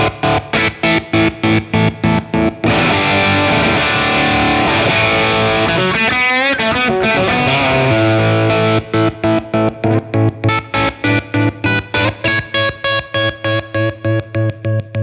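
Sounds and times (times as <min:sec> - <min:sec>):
chopped distorted electric guitar: 0:00.0 - 0:15.0.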